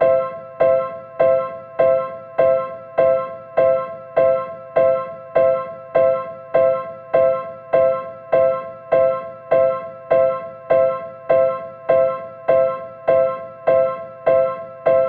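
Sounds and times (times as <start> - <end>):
electronic crossing bell: 0.0 - 15.0.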